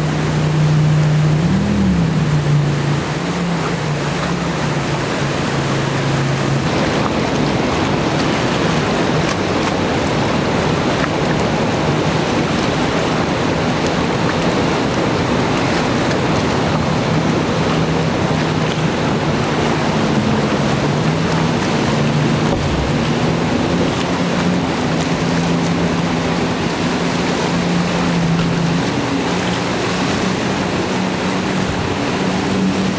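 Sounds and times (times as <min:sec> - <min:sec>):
boat engine: 0:00.0 - 0:32.9
churning whitewater rushing: 0:00.0 - 0:32.9.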